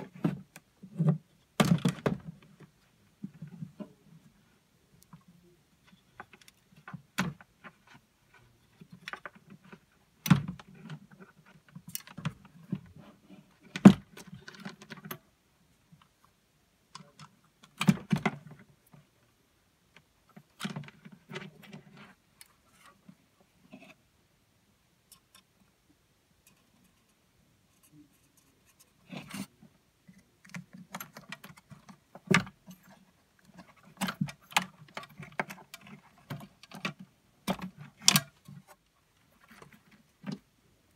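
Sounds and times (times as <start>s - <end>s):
hands handling speaker wiring: 0.0s - 15.3s, 16.9s - 19.2s, 19.9s - 24.0s, 26.4s - 40.5s.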